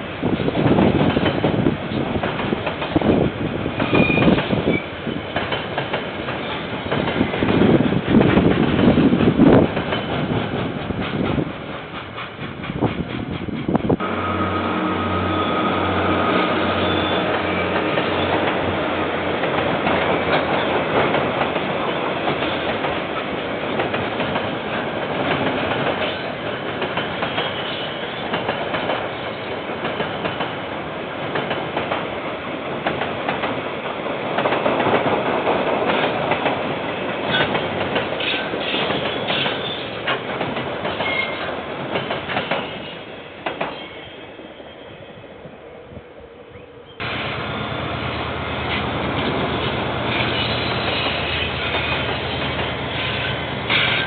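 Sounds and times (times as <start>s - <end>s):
train wheels clattering over rail joints: 0.4s - 14.3s, 16.6s - 30.6s, 31.2s - 43.9s, 48.7s - 54.0s.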